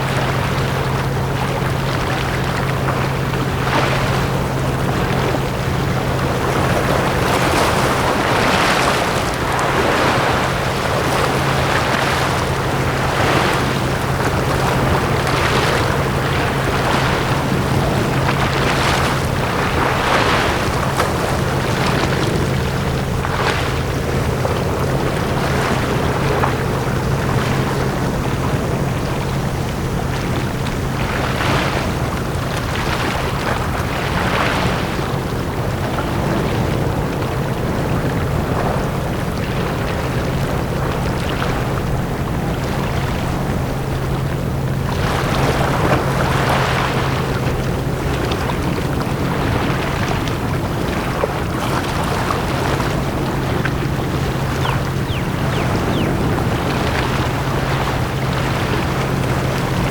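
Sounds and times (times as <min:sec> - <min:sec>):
small sea waves washing onto beach: 0:00.0 - 0:59.9
steady low hum: 0:00.0 - 0:59.9.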